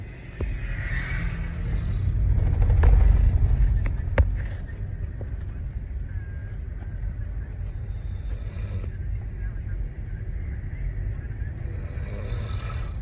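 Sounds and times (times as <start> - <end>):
low vehicle engine rumble: 0.0 - 13.0.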